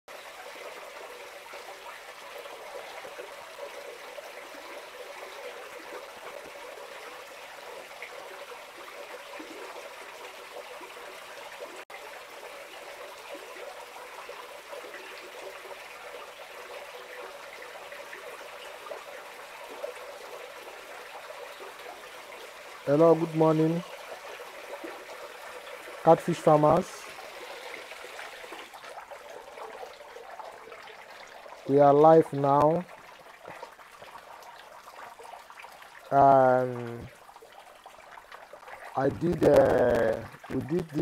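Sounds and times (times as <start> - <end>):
water trickling into tank: 0.1 - 41.0.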